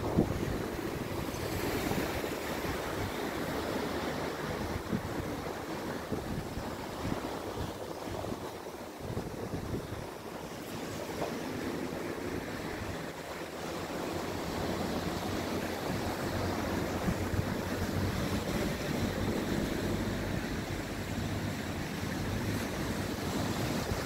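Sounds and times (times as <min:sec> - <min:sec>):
ocean surf washing onto beach: 0:00.0 - 0:24.0
wind buffeting microphone: 0:00.0 - 0:24.0.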